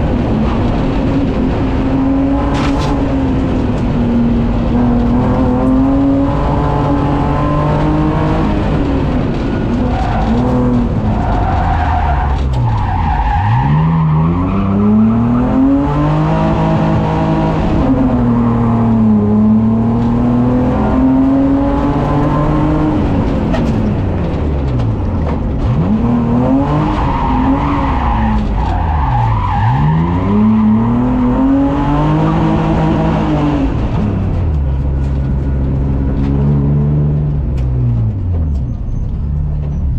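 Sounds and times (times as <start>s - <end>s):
race car engine revving: 0.0s - 38.5s.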